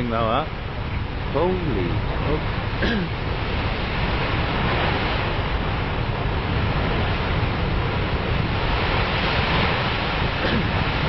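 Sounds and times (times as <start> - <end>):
roar of burning oil well: 0.0 - 11.0
wind buffeting microphone: 0.0 - 11.0.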